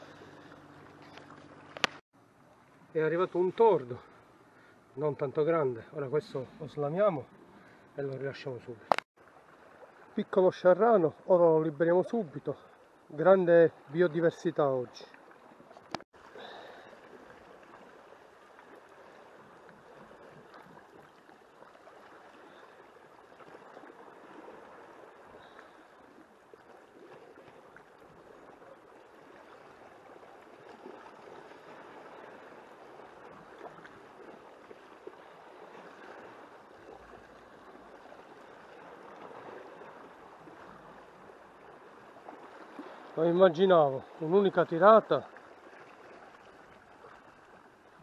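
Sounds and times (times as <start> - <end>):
water lapping against rocks: 5.6 - 48.0.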